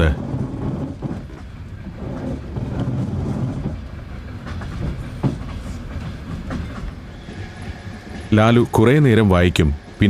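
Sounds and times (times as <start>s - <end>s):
wheels clicking over rail joints: 0.0s - 10.0s
wheels rumbling on rails: 0.0s - 10.0s.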